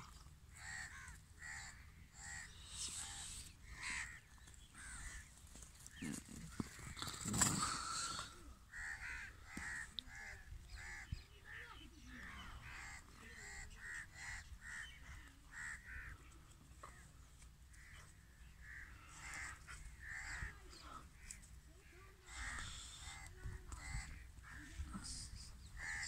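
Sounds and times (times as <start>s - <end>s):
crows cawing: 0.5s - 17.0s, 17.7s - 24.9s, 25.7s - 26.0s.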